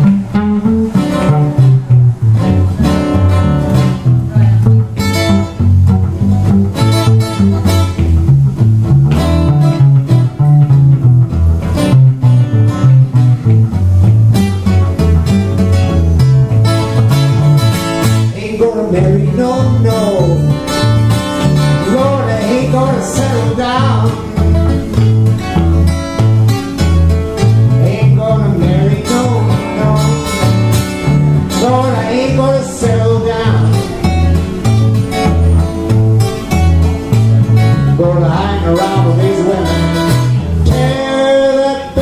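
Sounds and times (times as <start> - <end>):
acoustic guitar solo: 0.0 - 42.0.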